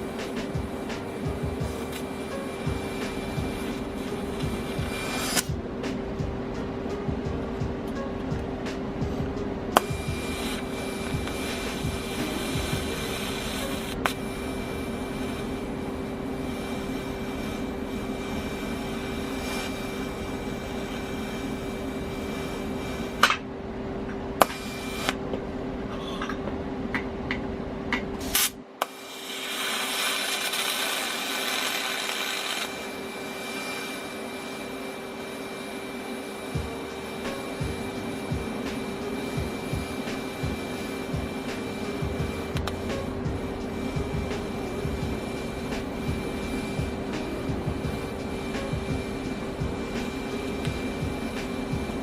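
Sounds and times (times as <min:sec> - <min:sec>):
welder humming and hissing: 0:00.0 - 0:25.3, 0:27.9 - 0:52.0.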